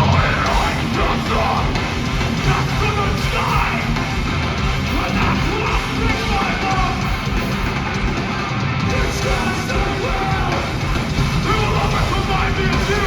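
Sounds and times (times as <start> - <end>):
distorted guitars: 0.0 - 13.0
drums: 0.0 - 13.0
yelled vocals: 0.0 - 13.0.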